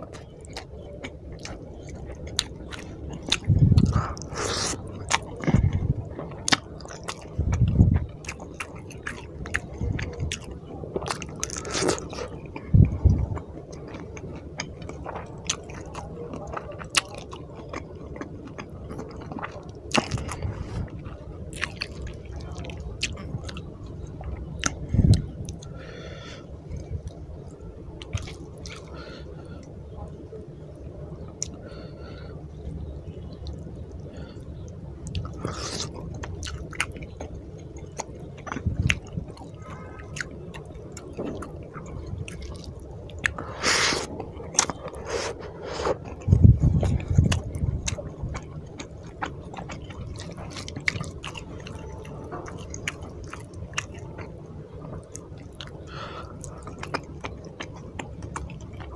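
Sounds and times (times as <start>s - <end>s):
wet chewing: 0.0s - 29.7s, 30.6s - 58.9s.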